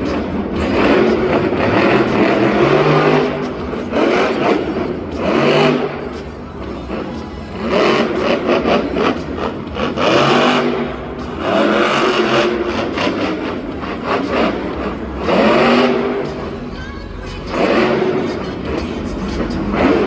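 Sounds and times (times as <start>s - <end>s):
truck engine revving hard: 0.0s - 16.7s, 17.3s - 20.0s.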